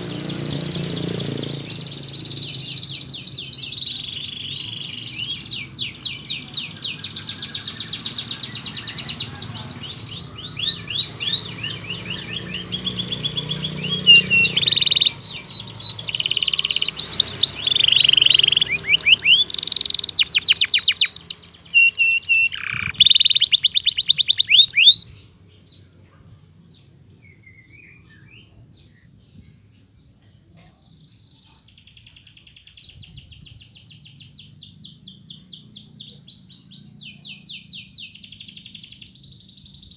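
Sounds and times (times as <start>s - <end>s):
canary singing trills: 0.0s - 25.8s, 30.9s - 39.9s.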